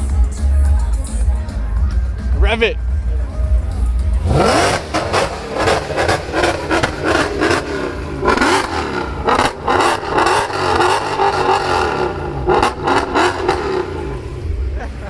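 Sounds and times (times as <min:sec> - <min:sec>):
car engine revving: 0:02.9 - 0:15.0.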